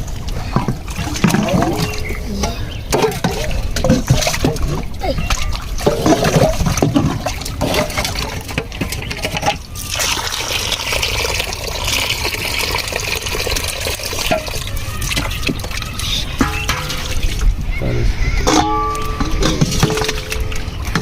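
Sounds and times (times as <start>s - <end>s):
water trickling: 0.0s - 17.8s
water splashing and sloshing: 0.0s - 21.0s.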